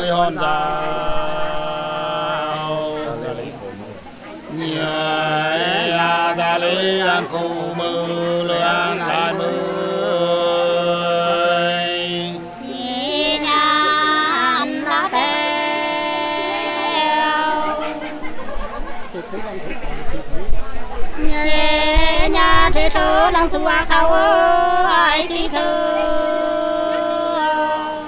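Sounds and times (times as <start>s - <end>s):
person singing long wavering notes: 0.0s - 3.6s, 4.5s - 18.5s, 21.2s - 28.0s.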